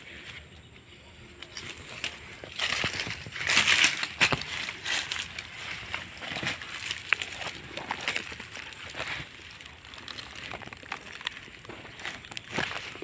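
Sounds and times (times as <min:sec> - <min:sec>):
leaves crunching underfoot: 0:01.3 - 0:13.0.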